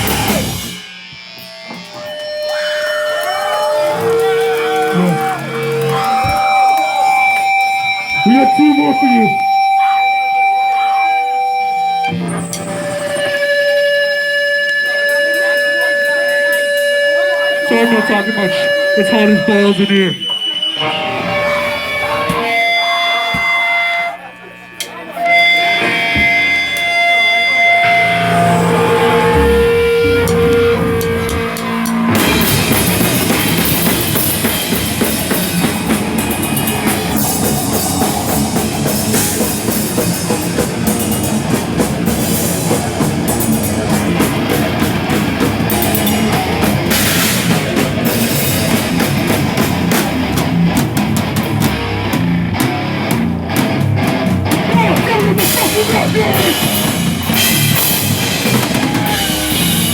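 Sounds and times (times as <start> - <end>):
held guitar notes: 0.0 - 59.9
rock band playing: 0.0 - 59.9.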